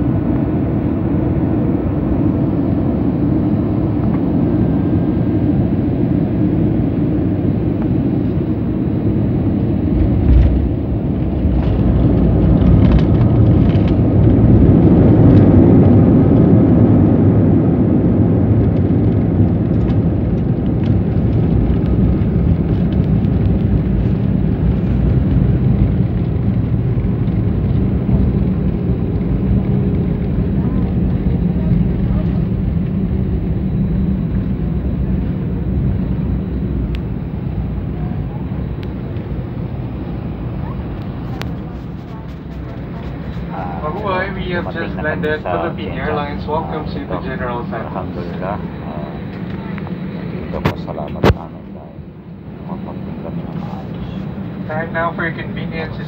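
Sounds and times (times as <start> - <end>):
jet engines and airflow rumble: 0.0 - 56.0.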